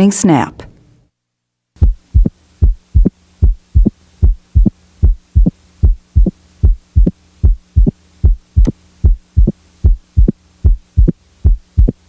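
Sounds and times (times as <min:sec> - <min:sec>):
low steady hum: 0:00.0 - 0:12.0
heartbeat: 0:01.8 - 0:12.0.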